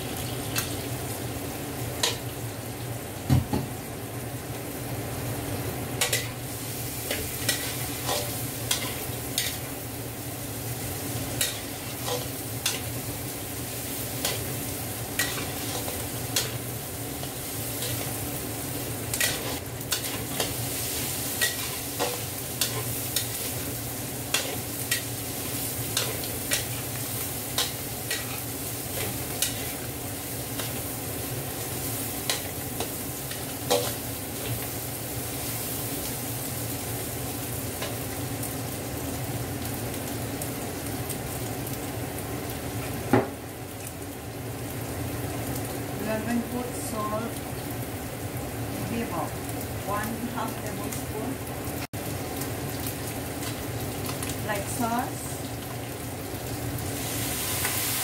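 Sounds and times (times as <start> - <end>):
food sizzling: 0.0 - 58.0.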